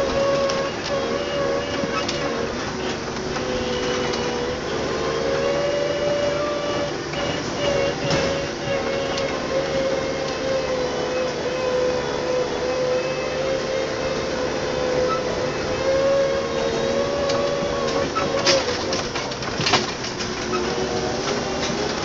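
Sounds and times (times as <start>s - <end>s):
tractor engine droning: 0.0s - 22.0s.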